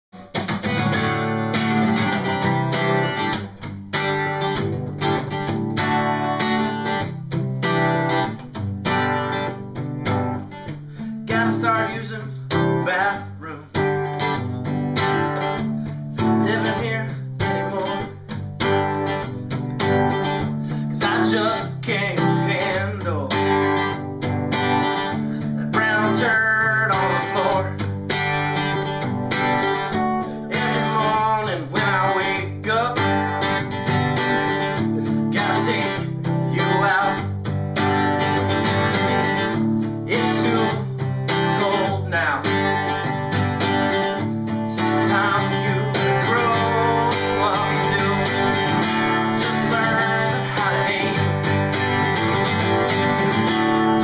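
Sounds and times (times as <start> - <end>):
acoustic guitar playing: 0.1 - 54.0.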